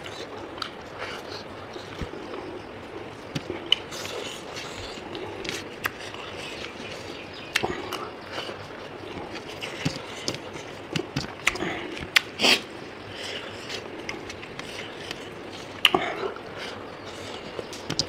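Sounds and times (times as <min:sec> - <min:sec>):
man chewing food: 0:00.0 - 0:18.0.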